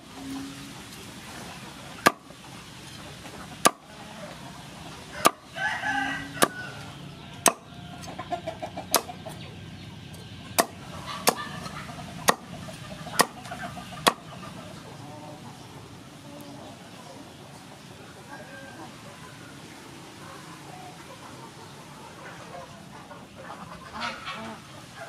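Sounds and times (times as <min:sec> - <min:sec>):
chicken calling: 0:00.0 - 0:25.0.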